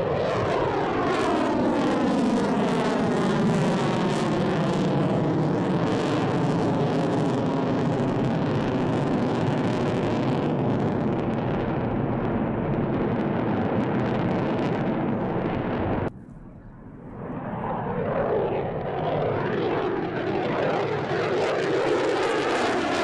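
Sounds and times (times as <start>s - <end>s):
jet roar flying past: 0.0s - 23.0s.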